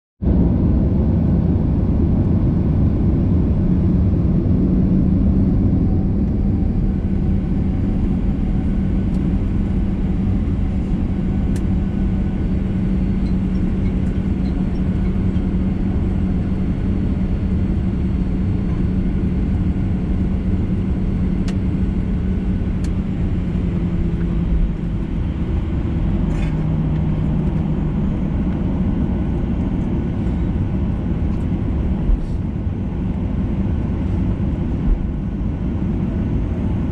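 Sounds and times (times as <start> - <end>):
airplane cabin engine hum: 0.2 - 36.9.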